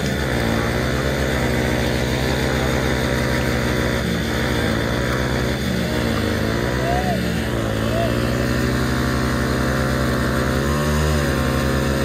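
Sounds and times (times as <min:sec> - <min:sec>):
motorcycle engines revving high: 0:00.0 - 0:12.0.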